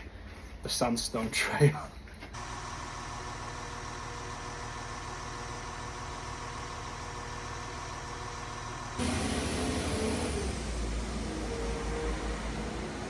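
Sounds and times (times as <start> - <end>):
engine idling: 2.4 - 13.0.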